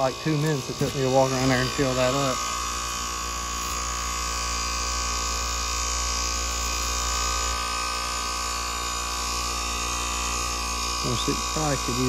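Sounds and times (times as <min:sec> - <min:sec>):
compressor electrical hum: 0:00.0 - 0:12.0.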